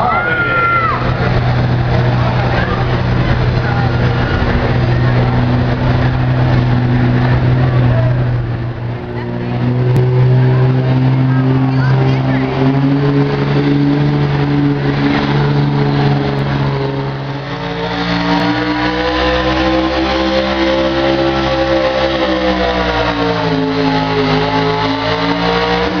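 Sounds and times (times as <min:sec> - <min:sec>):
truck engine running hard: 0:00.0 - 0:26.0.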